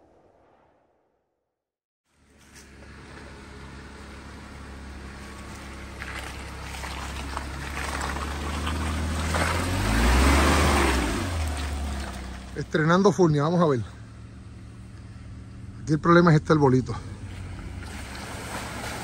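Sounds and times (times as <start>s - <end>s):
off-road vehicle engine humming: 2.1s - 19.0s.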